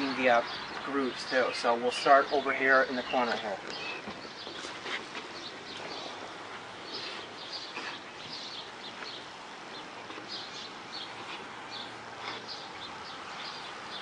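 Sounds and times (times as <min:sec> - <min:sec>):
birds chirping: 0:00.0 - 0:14.0
outdoor hiss: 0:00.0 - 0:14.0.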